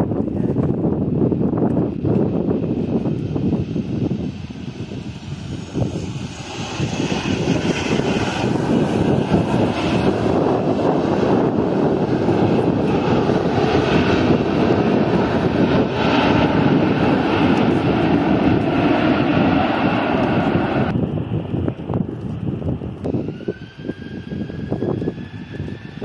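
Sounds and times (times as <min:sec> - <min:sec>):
airliner engines rushing: 0:00.0 - 0:26.0.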